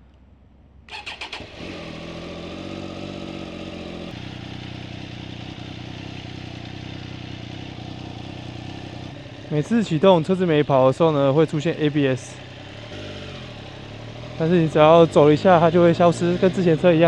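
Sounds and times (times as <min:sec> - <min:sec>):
motorcycle engine starting and idling: 0:00.2 - 0:17.0.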